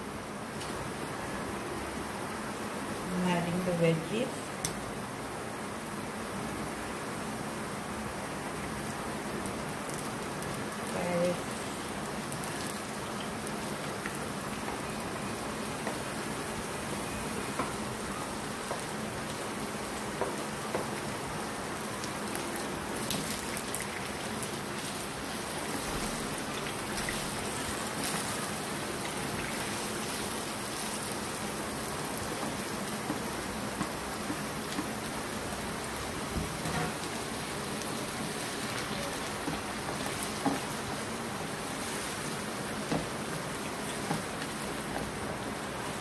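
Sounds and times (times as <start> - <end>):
food sizzling in hot oil: 7.8 - 46.0.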